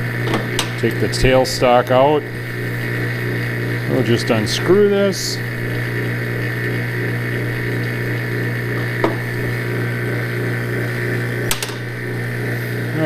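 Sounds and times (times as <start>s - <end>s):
vacuum pump humming: 0.0s - 13.0s.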